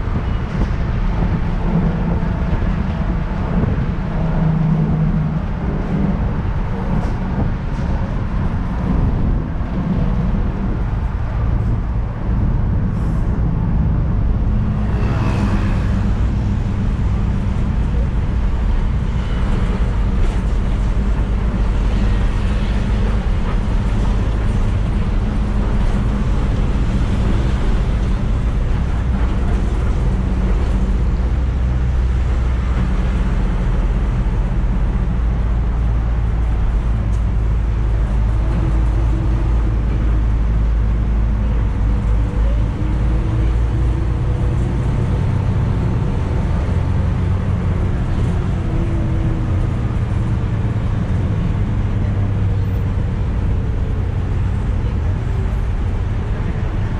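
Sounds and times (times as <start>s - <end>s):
bus engine drone: 0.0s - 56.9s
road rumble: 0.0s - 56.9s.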